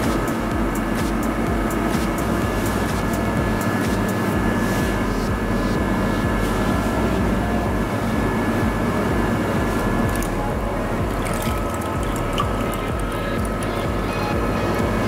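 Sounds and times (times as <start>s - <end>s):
machine drone with whine: 0.0s - 15.0s.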